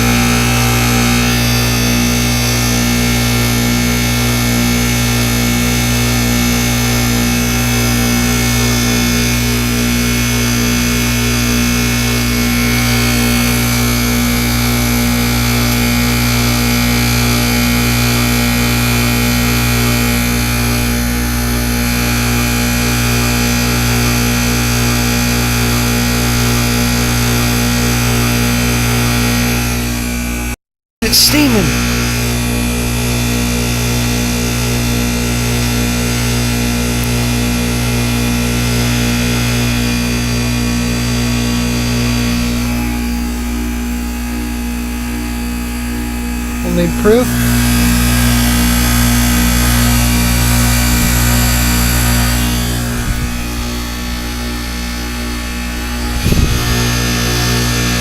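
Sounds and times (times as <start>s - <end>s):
heat pump compressor hum: 0.0s - 58.0s.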